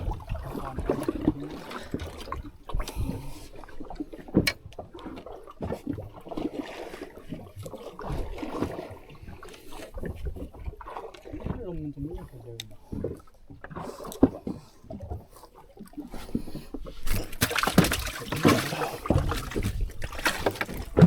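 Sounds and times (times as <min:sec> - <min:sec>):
water slapping boat hull: 0:00.0 - 0:21.0.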